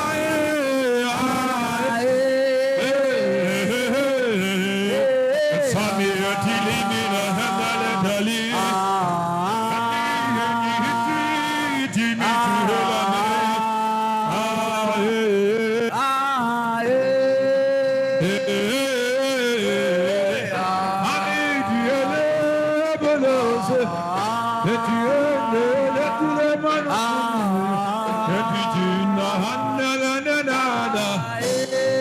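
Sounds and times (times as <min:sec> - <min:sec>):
person singing slow chant: 0:00.0 - 0:32.0.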